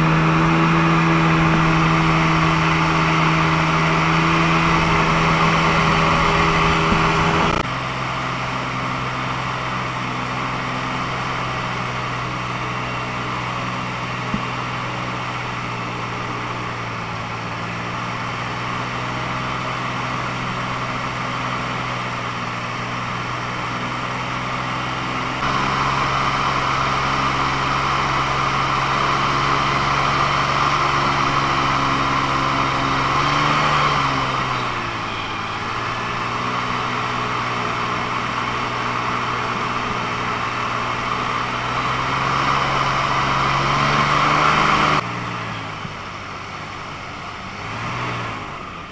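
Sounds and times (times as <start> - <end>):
airboat engine and propeller: 0.0 - 48.9.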